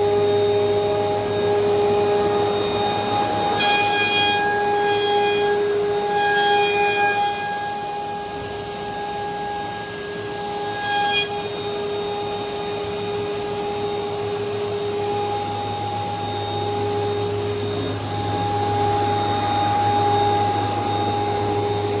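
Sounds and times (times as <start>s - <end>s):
constant whining tones: 0.0s - 22.0s
woodworking machine running: 0.0s - 22.0s.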